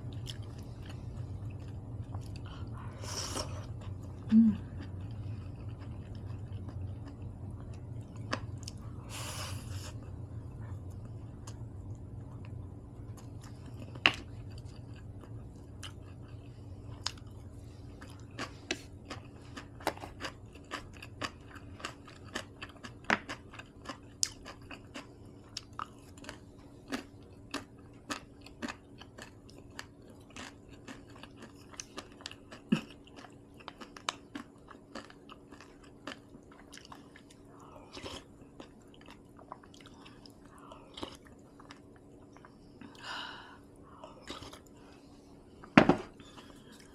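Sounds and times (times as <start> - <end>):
food crunching: 0.0 - 10.2, 10.8 - 43.1
person chewing and eating: 0.0 - 46.9.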